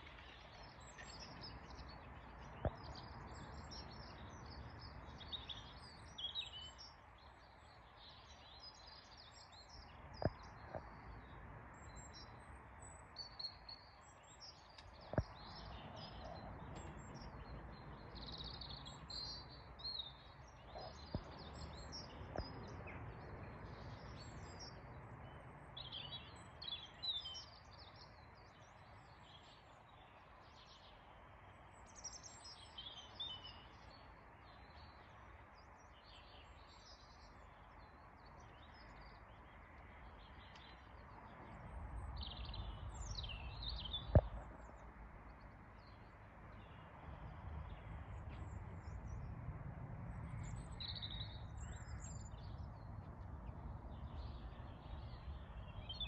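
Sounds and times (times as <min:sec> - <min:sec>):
songbirds chirping and singing: 0:00.0 - 0:49.4, 0:50.2 - 0:56.0.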